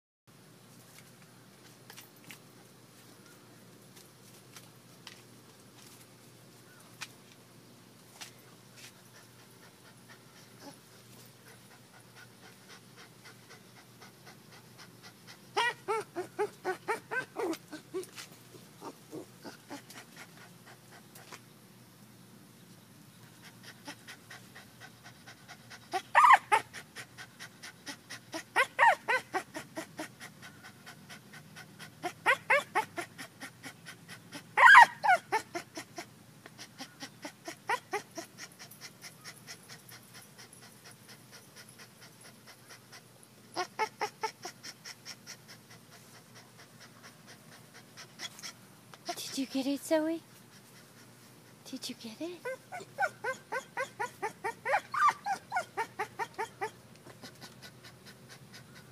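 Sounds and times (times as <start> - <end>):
puppy panting: 8.8 - 21.5, 23.3 - 58.9.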